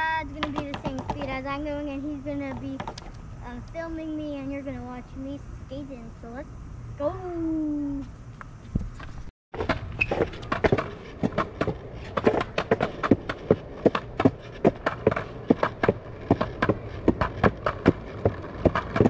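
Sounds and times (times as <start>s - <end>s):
skateboard wheels rolling on concrete: 0.0s - 5.2s, 8.0s - 19.0s.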